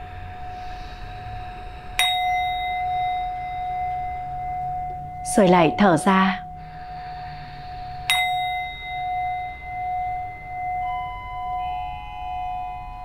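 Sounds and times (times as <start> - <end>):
singing bowl ringing: 0.0 - 13.0
sustained tone: 0.0 - 13.0.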